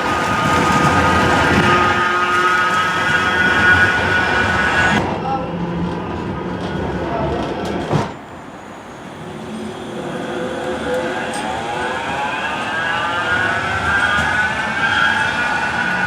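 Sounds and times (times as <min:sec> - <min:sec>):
tram motors whining: 0:00.0 - 0:16.0
tram rumbling running noise: 0:00.0 - 0:16.0.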